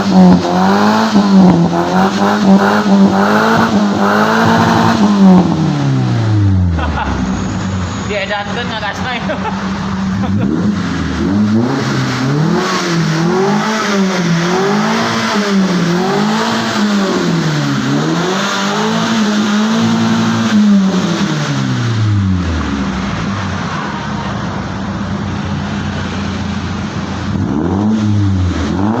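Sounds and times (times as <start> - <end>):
car engine revving and idling: 0.0 - 29.0.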